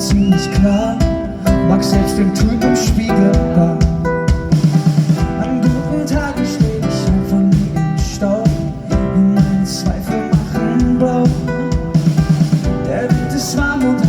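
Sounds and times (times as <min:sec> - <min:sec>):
acoustic pop band playing: 0:00.0 - 0:14.0
strummed acoustic guitar: 0:00.0 - 0:14.0.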